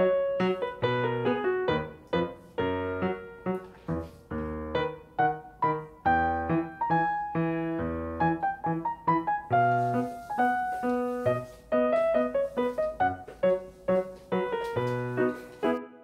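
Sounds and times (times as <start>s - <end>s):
light piano tune: 0.0s - 16.0s.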